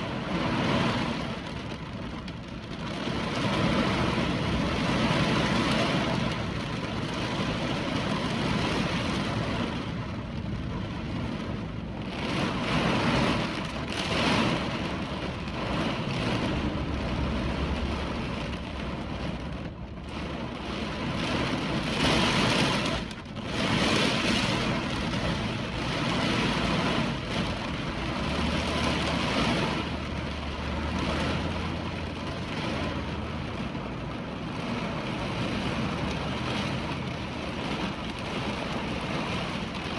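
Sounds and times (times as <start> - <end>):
hurricane wind and rain: 0.0 - 39.9.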